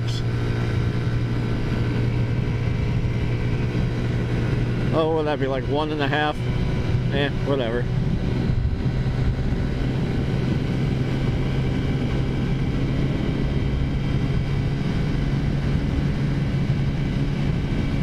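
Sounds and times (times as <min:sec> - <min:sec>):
scooter engine droning: 0:00.0 - 0:18.0.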